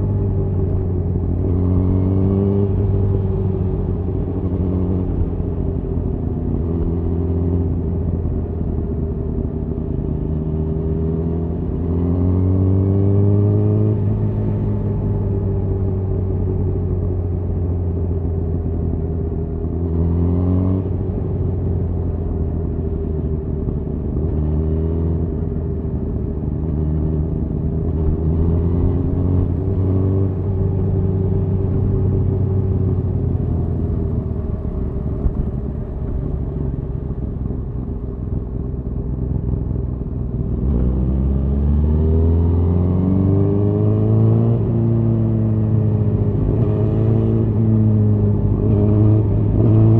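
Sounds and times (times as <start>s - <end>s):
road and wind noise: 0.0s - 49.9s.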